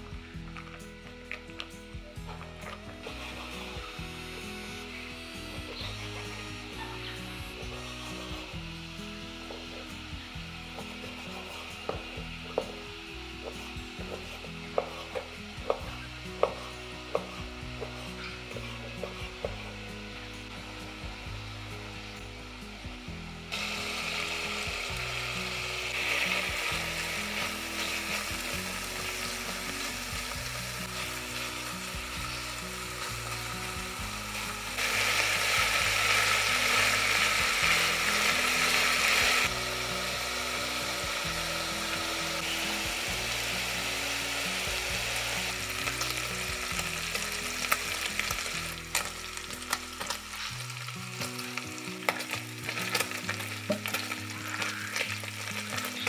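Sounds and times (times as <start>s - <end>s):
meat sizzling in a pan: 3.0s - 22.8s, 23.4s - 56.0s.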